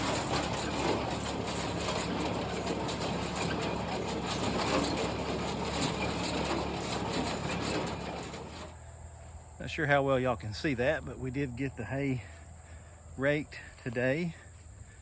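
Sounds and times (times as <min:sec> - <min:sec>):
hay baler mechanical clatter: 0:00.0 - 0:08.8, 0:09.7 - 0:14.4
tractor engine humming: 0:00.0 - 0:15.0.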